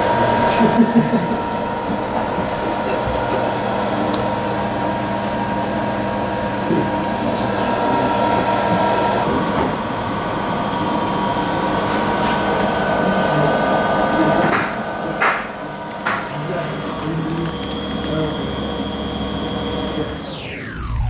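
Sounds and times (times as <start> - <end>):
high-pitched whining tones: 0.0 - 21.0
machine hum: 0.0 - 21.0.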